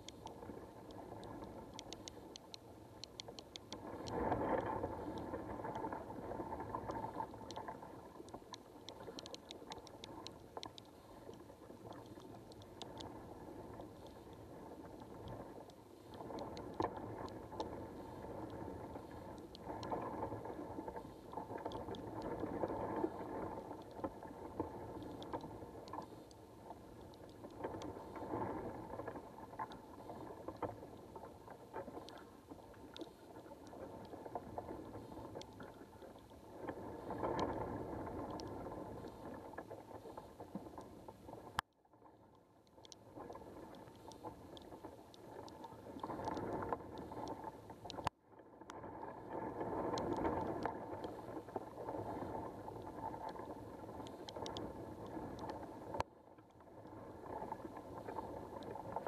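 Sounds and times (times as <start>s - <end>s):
faint sharp clicks: 0.0s - 59.0s.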